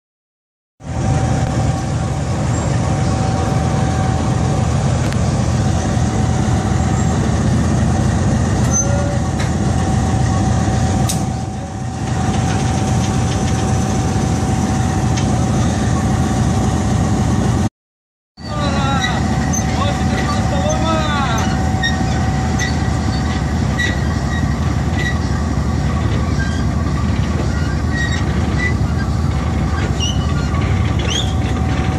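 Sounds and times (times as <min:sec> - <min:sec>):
diesel locomotive engine running: 0:00.8 - 0:17.7, 0:18.4 - 0:31.9.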